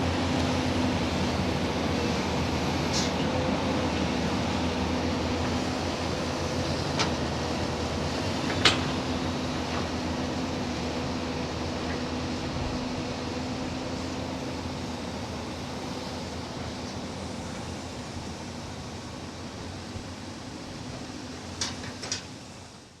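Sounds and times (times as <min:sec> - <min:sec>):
excavator engine running: 0:00.0 - 0:22.9.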